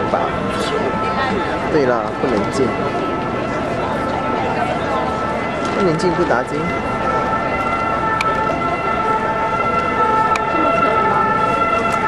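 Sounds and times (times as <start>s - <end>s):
murmur of crowd: 0.0s - 12.0s.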